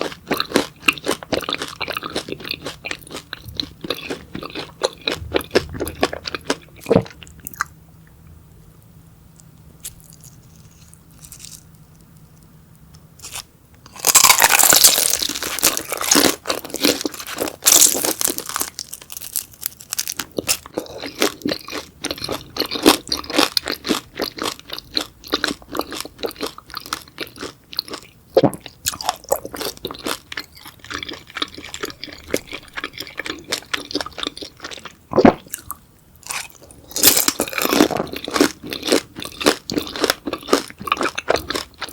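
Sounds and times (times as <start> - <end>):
crunchy eating and chewing: 0.0 - 7.8, 9.8 - 12.4, 13.2 - 41.9.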